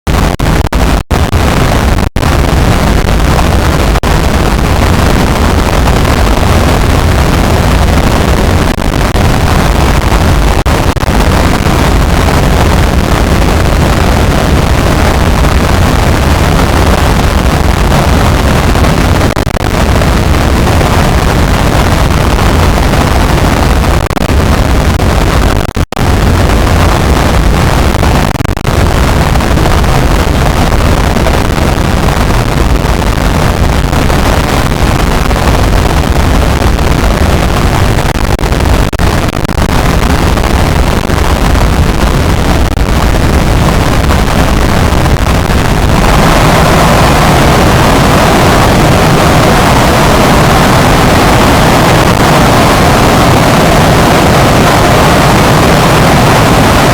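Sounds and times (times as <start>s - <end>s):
loud harsh broadband noise: 0.0s - 56.9s.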